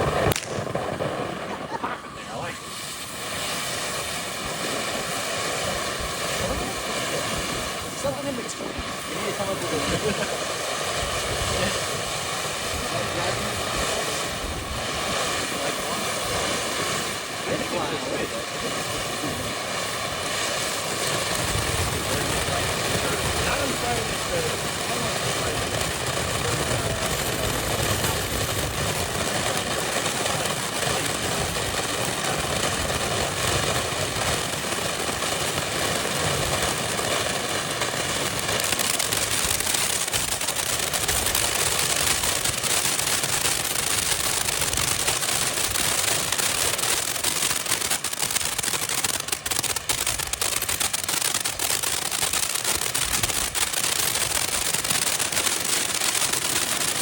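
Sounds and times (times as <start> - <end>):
firework fountain hissing and crackling: 0.0 - 57.0.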